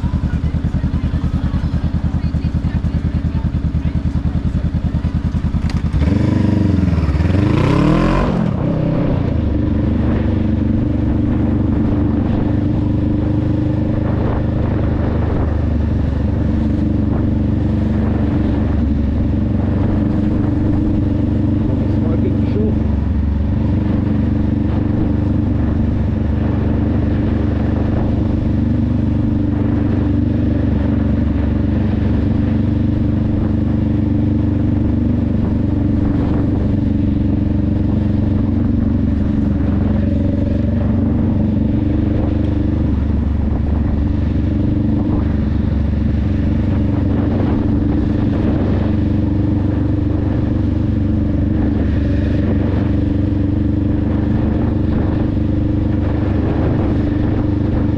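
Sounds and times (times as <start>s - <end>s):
motorcycle engine and exhaust running: 0.0s - 57.9s.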